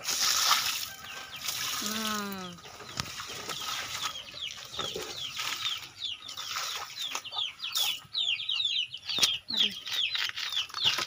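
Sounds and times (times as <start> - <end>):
birds chirping: 0.6 - 11.0.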